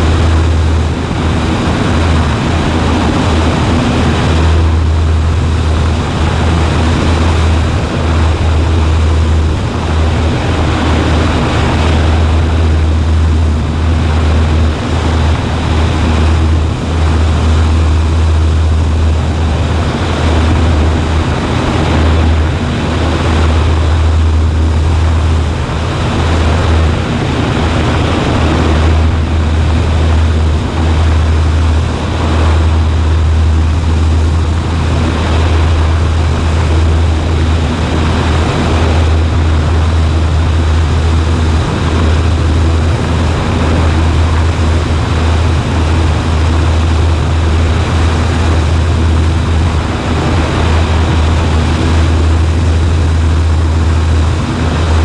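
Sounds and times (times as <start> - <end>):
propeller plane engine drone: 0.0 - 55.0
rushing air: 0.0 - 55.0.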